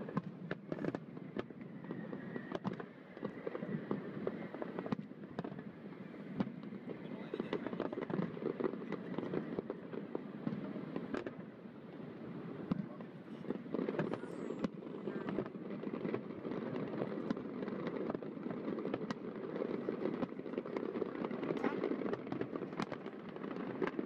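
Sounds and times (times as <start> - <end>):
fireworks popping and crackling: 0.0 - 24.0.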